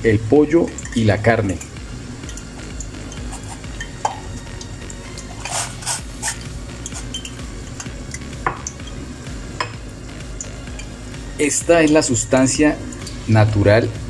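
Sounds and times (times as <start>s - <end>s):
water boiling in a pot: 0.0s - 14.0s.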